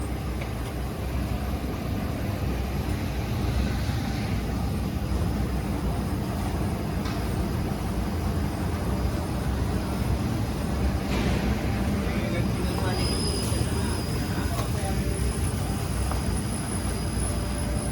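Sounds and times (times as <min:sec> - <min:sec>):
printing machine humming: 0:00.0 - 0:17.9.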